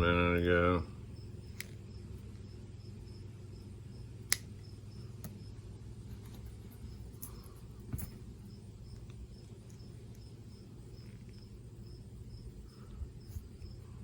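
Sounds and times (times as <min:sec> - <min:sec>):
cricket chirping: 0:00.0 - 0:14.0
low steady hum: 0:00.0 - 0:14.0.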